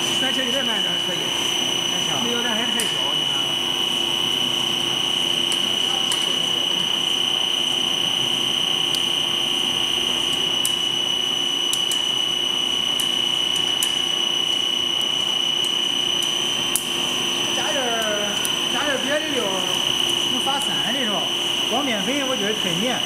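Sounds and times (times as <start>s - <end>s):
extruder machine high-pitched whine: 0.0s - 23.0s.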